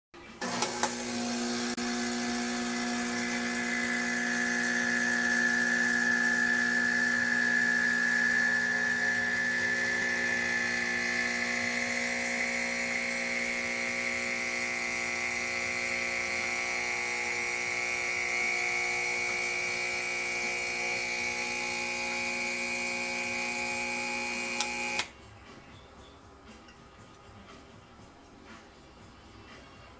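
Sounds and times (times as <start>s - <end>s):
espresso machine pump humming: 0.4s - 25.1s.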